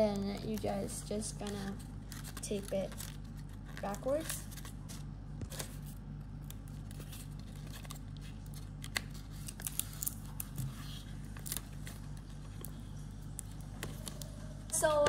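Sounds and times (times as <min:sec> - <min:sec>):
low hum: 0:00.0 - 0:15.0
paper and tape crinkling: 0:00.0 - 0:15.0.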